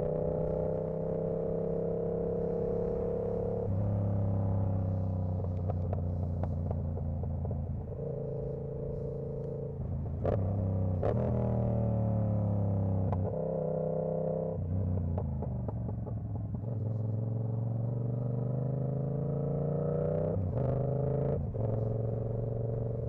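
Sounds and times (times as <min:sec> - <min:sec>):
motorcycle engine and exhaust: 0:00.0 - 0:23.0.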